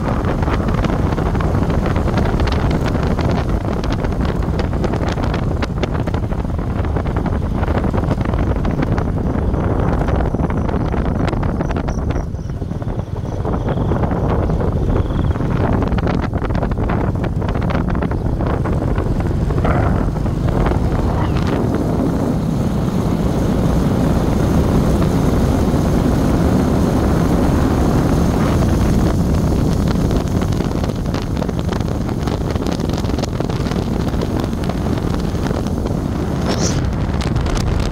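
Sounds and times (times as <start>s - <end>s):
vehicle road noise: 0.0s - 37.9s
wind on microphone: 0.0s - 37.9s.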